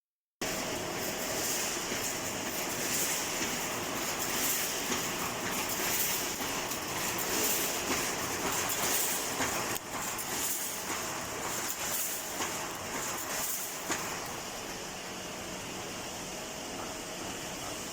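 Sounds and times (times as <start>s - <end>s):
welding machine running with hiss: 0.4s - 17.9s.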